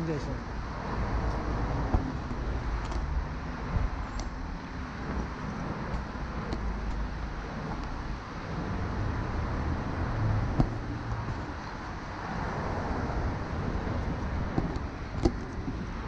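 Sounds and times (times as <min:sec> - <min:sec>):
cars passing on road: 0:00.0 - 0:16.0
vehicle approaching: 0:00.0 - 0:16.0.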